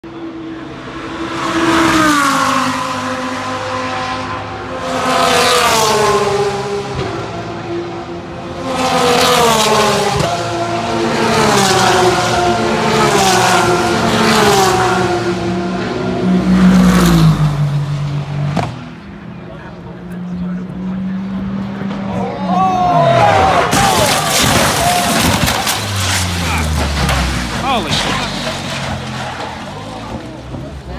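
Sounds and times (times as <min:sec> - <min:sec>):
race cars passing at speed: 0:00.0 - 0:30.9.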